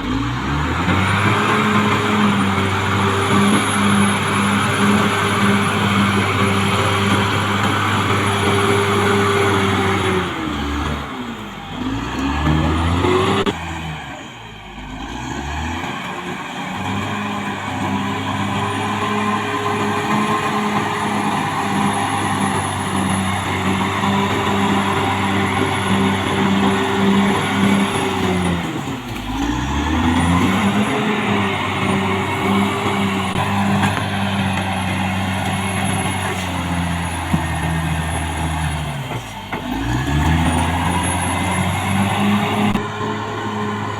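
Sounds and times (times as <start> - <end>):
bulldozer diesel engine: 0.0 - 43.9.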